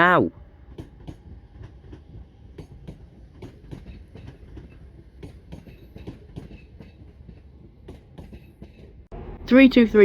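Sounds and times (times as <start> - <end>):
train rumble: 0.0 - 10.0
wheels clicking over rail joints: 0.6 - 9.1.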